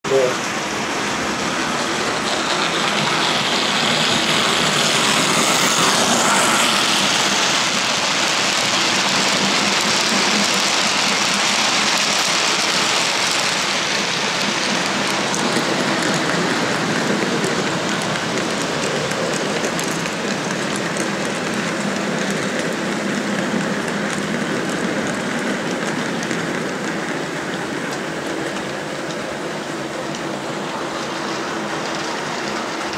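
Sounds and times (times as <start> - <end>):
model train running on track: 0.1 - 32.9
wheels clicking over rail joints: 0.1 - 32.9.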